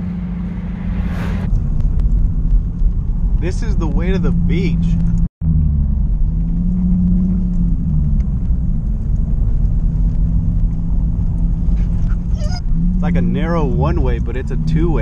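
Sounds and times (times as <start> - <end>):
car engine drone inside cabin: 0.0 - 15.0.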